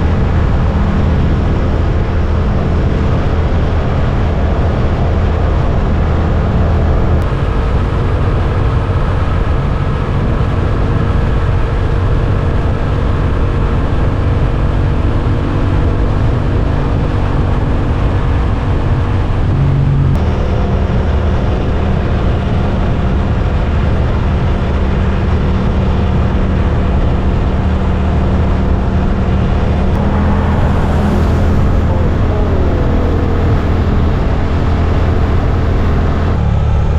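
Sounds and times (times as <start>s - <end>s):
continuous rushing noise: 0.0s - 36.9s
motorcycle engine running: 0.0s - 36.9s.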